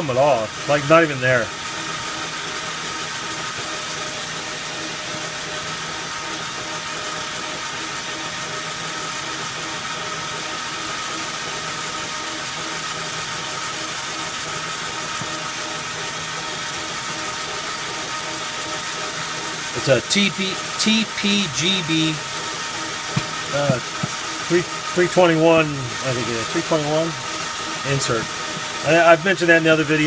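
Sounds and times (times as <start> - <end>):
metal lathe motor whine: 0.0 - 30.0.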